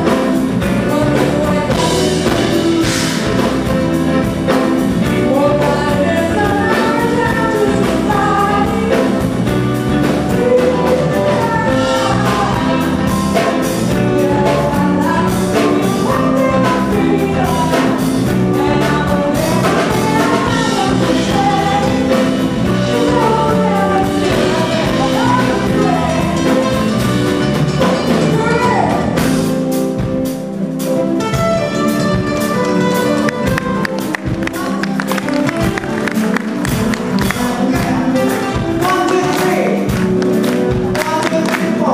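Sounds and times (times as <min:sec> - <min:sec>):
woman singing: 0:00.0 - 0:29.5, 0:32.2 - 0:41.9
jazz soul band playing: 0:00.0 - 0:41.9.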